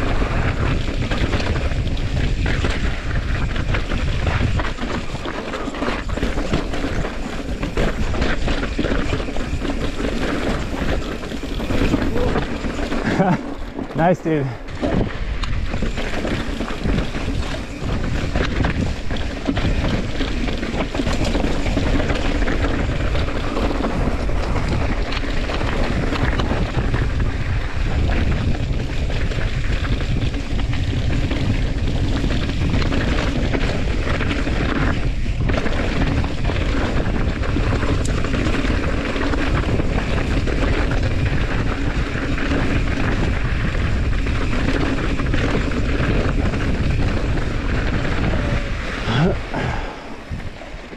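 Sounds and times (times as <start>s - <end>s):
bike rattling over rocky trail: 0.0s - 50.9s
wind rushing over microphone: 0.0s - 50.9s.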